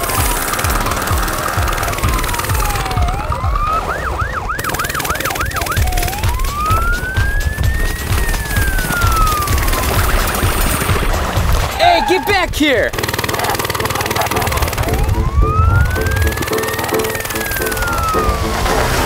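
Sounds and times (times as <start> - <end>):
background music with bass beat: 0.0 - 4.4, 5.6 - 19.0
police siren wailing: 0.0 - 19.0.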